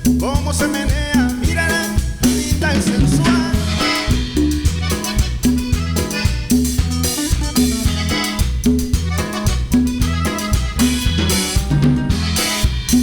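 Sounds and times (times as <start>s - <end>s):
bass line: 0.0s - 13.0s
drum kit beat: 0.0s - 13.0s.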